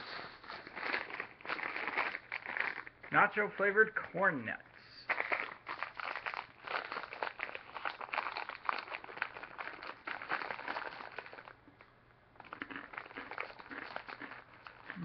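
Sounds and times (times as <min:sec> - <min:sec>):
foil snack bag crackling: 0:00.0 - 0:04.0, 0:05.1 - 0:11.6, 0:12.4 - 0:15.0.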